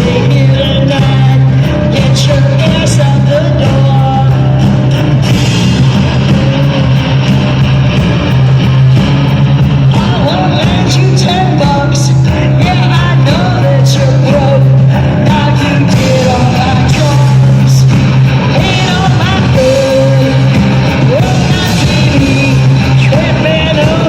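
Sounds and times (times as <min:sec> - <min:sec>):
droning bass note: 0:00.0 - 0:24.0
drum and cymbal hits: 0:00.0 - 0:24.0
electric guitar lines: 0:00.0 - 0:24.0.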